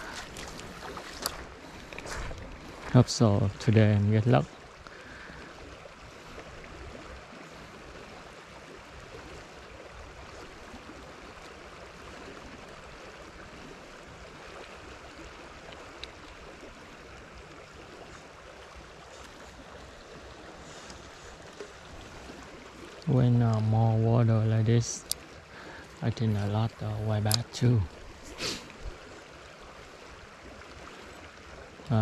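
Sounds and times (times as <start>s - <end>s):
river current rushing: 0.0s - 32.0s.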